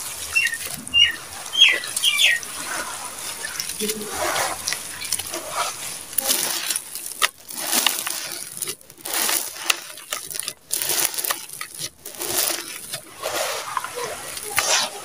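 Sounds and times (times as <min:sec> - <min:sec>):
sand pouring into plastic tub: 0:02.6 - 0:15.0.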